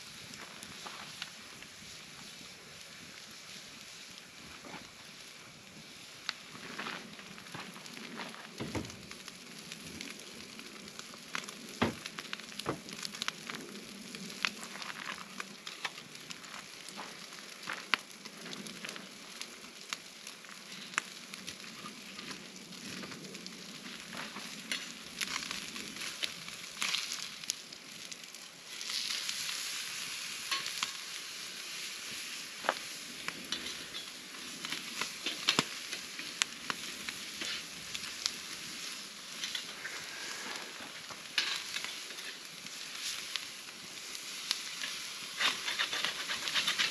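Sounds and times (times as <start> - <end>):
campfire crackling and popping: 0.0 - 46.9
food sizzling on grill: 0.0 - 46.9.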